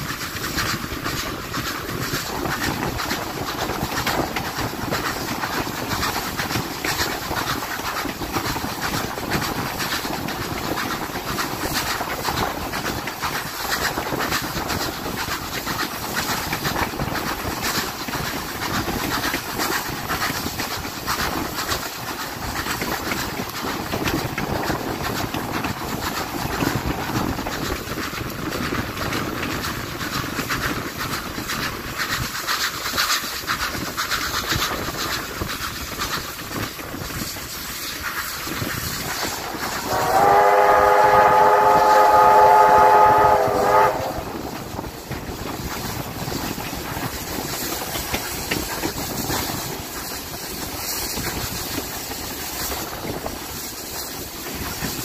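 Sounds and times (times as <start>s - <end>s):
steam train wheels rumbling: 0.0s - 55.0s.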